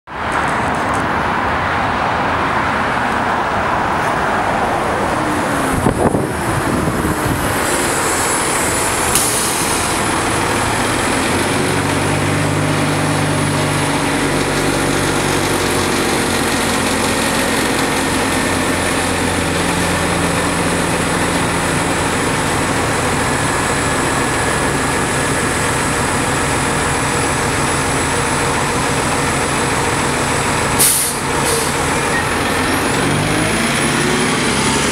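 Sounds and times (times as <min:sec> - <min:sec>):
bus engine hum: 0:00.1 - 0:34.9
freeway traffic noise: 0:00.1 - 0:34.9.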